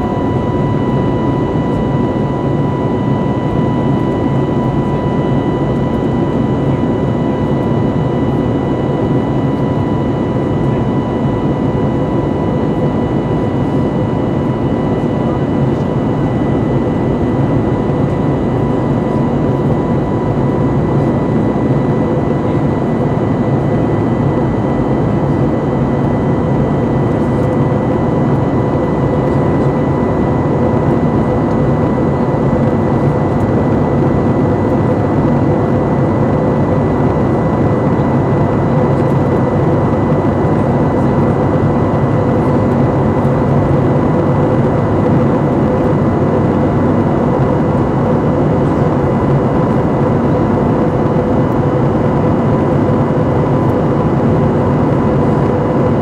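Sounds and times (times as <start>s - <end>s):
jet engines droning: 0.0s - 56.0s
thin steady whine: 0.0s - 56.0s.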